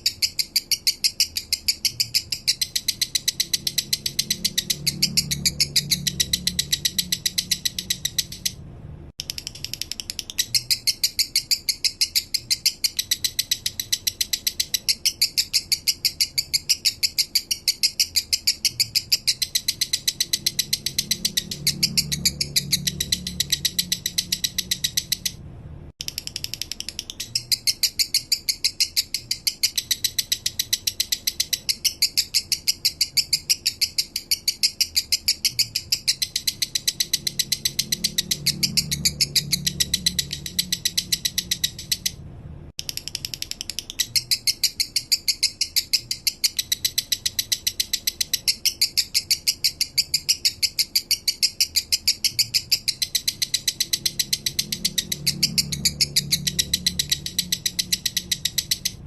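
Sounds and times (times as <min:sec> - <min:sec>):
lovebird chattering chirps: 0:00.0 - 0:08.6, 0:09.2 - 0:25.4, 0:26.0 - 0:42.2, 0:42.8 - 0:59.0.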